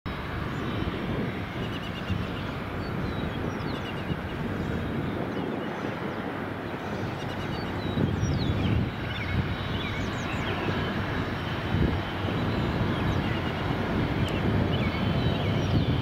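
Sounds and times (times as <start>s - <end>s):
birds chirping: 0.1s - 16.0s
distant jet engines running: 0.1s - 16.0s.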